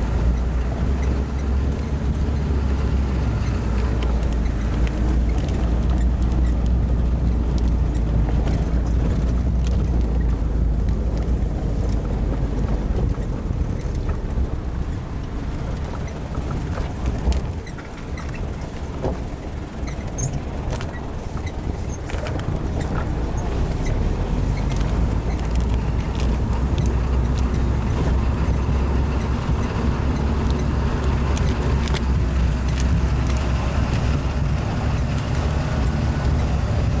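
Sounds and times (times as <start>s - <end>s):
jeep engine rumbling: 0.0s - 37.0s
tyres on gravel road noise: 0.0s - 37.0s
rattling clicks: 3.4s - 36.5s.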